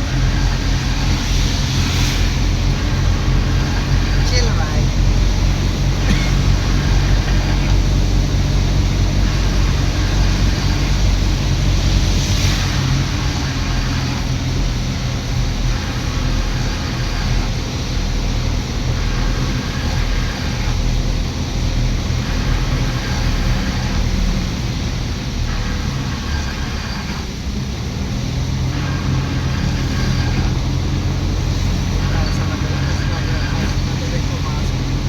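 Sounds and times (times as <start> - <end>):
road noise: 0.0 - 35.0
vehicle engine running: 0.0 - 35.0.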